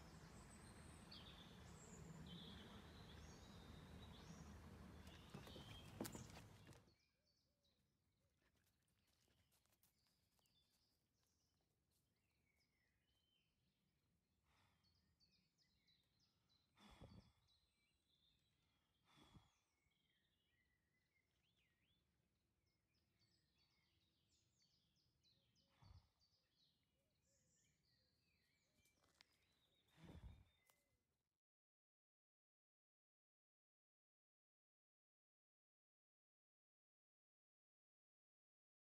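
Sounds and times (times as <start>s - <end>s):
faint birdsong: 0.0s - 31.2s.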